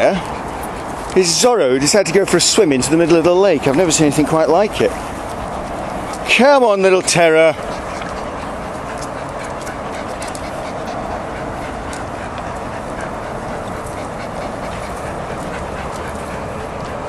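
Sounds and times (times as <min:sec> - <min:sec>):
dog swimming: 0:00.0 - 0:17.0.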